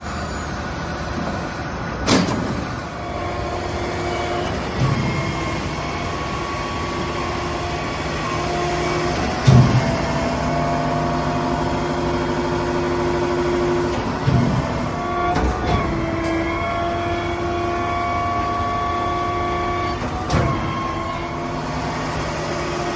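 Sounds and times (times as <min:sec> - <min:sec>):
concrete pump engine hum: 0:00.0 - 0:22.9.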